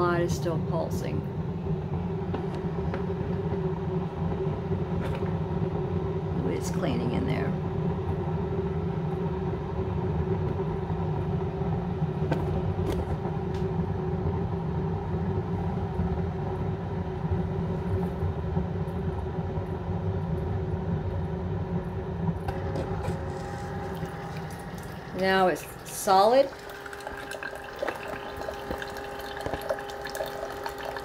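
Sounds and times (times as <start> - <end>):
coffee maker rumbling: 0.0 - 18.2, 22.3 - 31.0
faint steady hum: 0.0 - 31.0.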